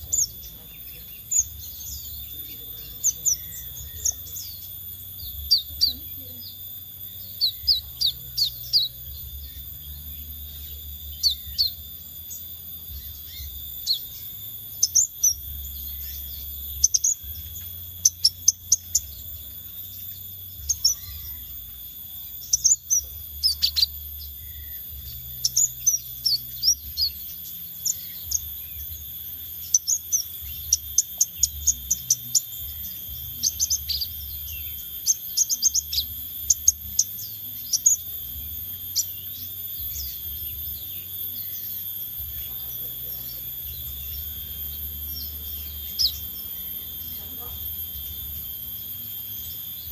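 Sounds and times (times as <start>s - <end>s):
songbird chirping: 0.0s - 49.9s
steady high-pitched whine: 0.0s - 49.9s.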